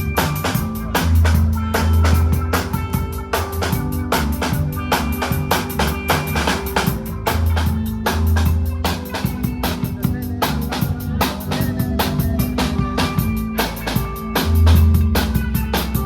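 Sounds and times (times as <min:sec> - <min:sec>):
bass drum and snare beat: 0:00.0 - 0:16.0
rock band playing: 0:00.0 - 0:16.0
sustained bass notes: 0:00.0 - 0:16.0.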